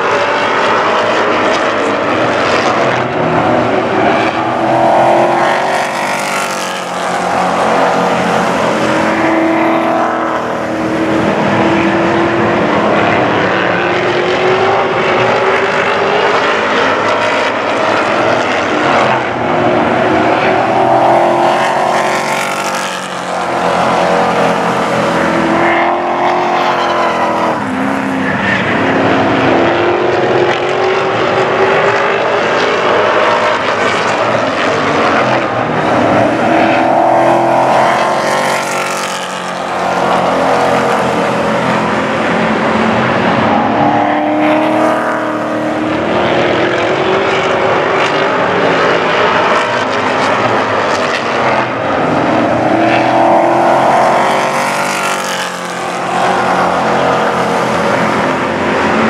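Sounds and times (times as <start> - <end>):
race truck engines lapping: 0.0 - 59.0.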